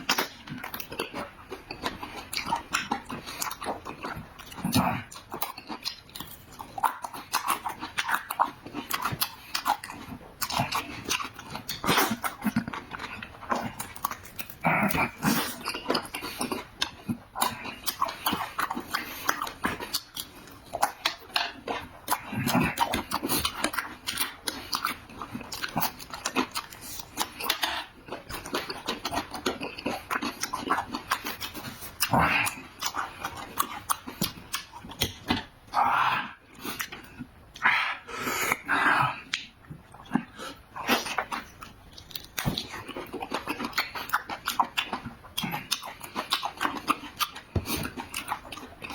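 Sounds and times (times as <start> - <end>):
wet chewing and smacking: 0.0 - 48.9.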